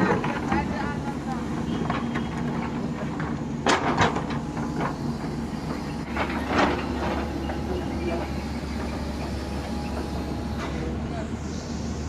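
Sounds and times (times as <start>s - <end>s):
vehicle running hum: 0.0s - 12.0s.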